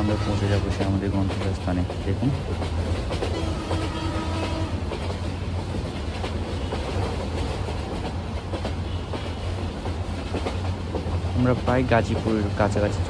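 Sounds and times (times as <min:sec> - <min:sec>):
train coach rumble: 0:00.0 - 0:13.0
wheels clacking over rails: 0:00.0 - 0:13.0.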